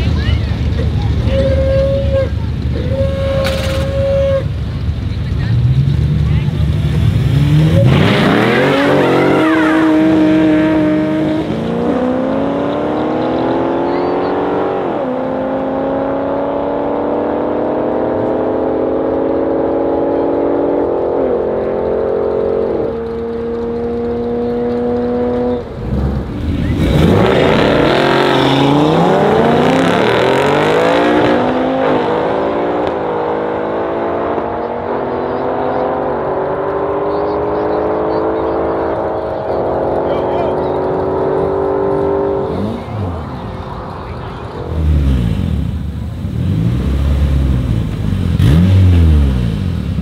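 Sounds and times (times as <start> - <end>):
car engines revving: 0.0 - 50.0
race car engines accelerating: 0.0 - 50.0.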